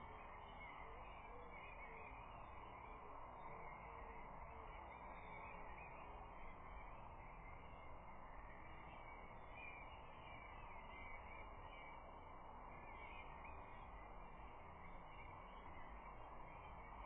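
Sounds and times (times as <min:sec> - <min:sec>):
faint bird chirps: 0:00.0 - 0:17.0
low background hiss: 0:00.0 - 0:17.0.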